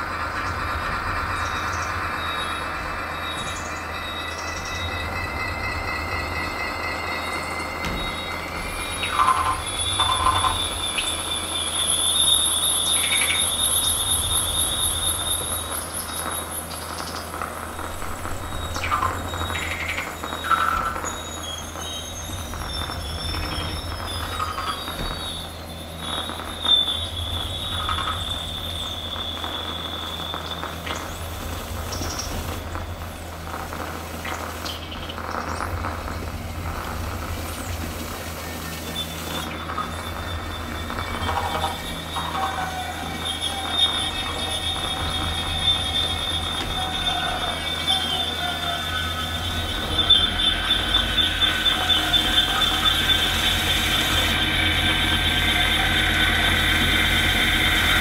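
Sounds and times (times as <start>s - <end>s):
electronic squeaks: 0.0s - 58.0s
low steady drone: 0.0s - 58.0s.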